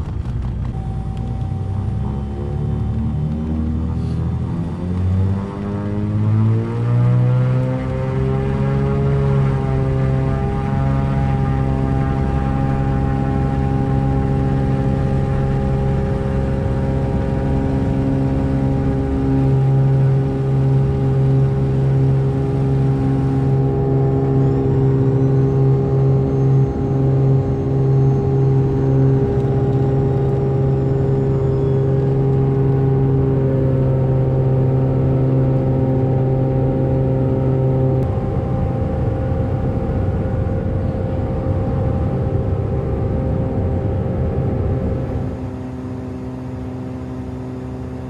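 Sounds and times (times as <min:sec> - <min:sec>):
propeller engine droning: 0:00.0 - 0:48.0.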